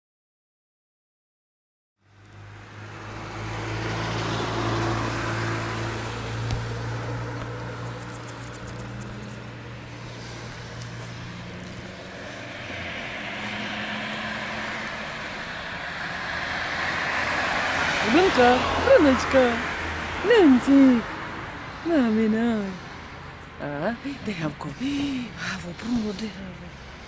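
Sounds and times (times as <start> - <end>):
road traffic noise: 2.0 - 27.0
vehicle engine humming: 2.0 - 27.0.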